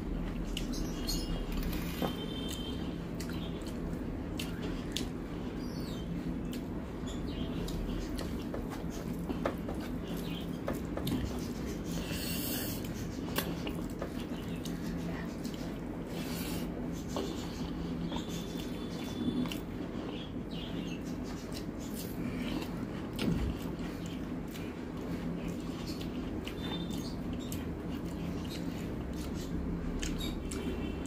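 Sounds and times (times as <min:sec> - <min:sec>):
steady low hum: 0:00.0 - 0:31.0
squishing of rice and gravy: 0:02.1 - 0:31.0
chewing: 0:02.4 - 0:05.5, 0:06.2 - 0:30.9.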